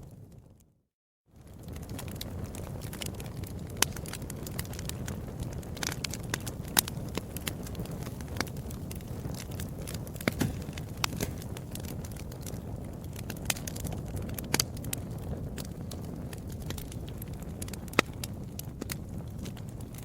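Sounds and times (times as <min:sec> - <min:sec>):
fire crackling and popping: 0:00.0 - 0:00.8, 0:01.4 - 0:20.0.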